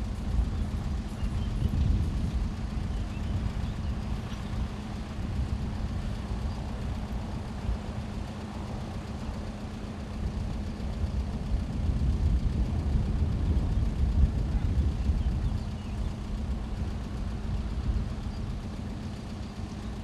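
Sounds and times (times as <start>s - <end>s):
constant low hum: 0.0s - 20.0s
road traffic rumble: 0.0s - 20.0s.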